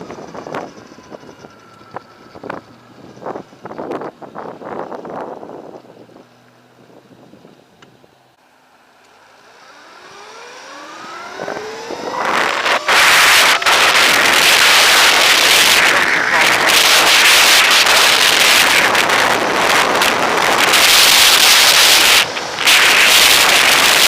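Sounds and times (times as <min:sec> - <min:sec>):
electric motorbike motor whining: 0:00.0 - 0:06.6, 0:09.0 - 0:24.0
wind on microphone: 0:00.0 - 0:07.6, 0:11.0 - 0:24.0.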